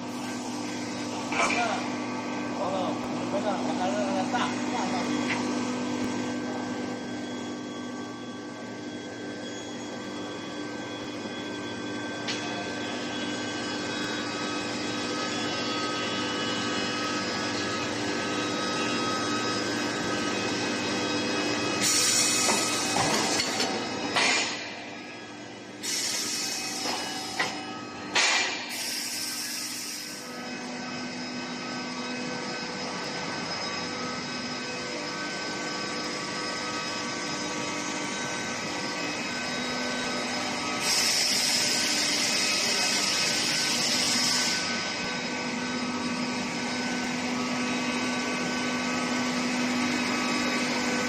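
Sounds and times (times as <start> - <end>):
machine hum and hiss: 0.0 - 51.0.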